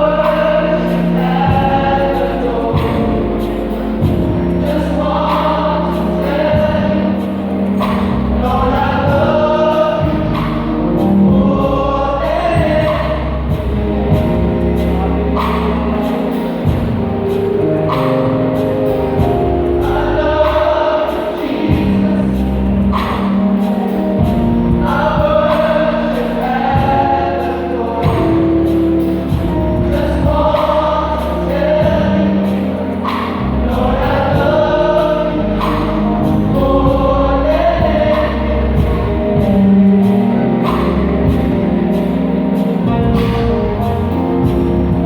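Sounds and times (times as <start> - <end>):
gospel group singing in harmony: 0.0 - 45.0
instrumental backing: 0.0 - 45.0.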